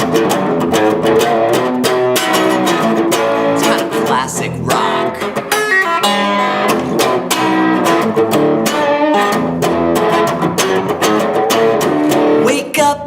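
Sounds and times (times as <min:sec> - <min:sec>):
electric guitar playing rock: 0:00.0 - 0:13.0.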